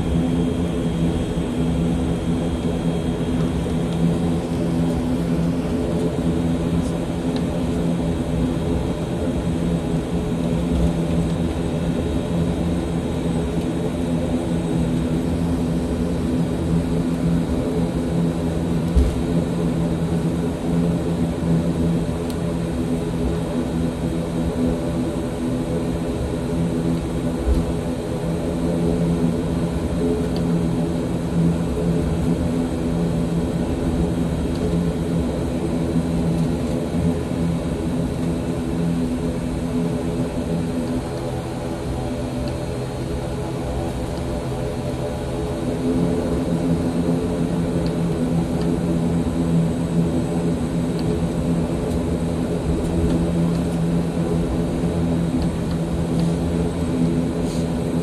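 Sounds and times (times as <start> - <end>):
turboprop engine drone in cabin: 0.0 - 58.0.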